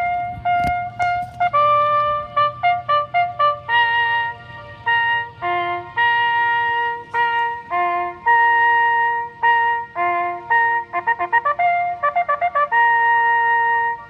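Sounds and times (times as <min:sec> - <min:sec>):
siren playing bugle call: 0:00.0 - 0:14.0.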